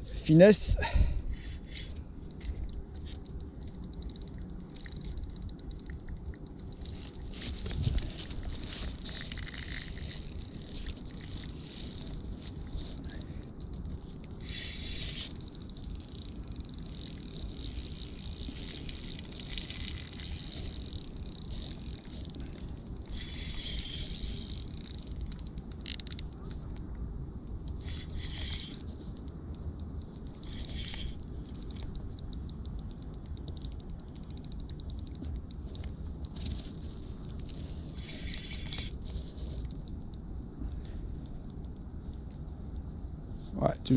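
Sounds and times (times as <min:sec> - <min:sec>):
insects trilling: 0:00.0 - 0:42.0
steady low rumble: 0:00.0 - 0:43.9.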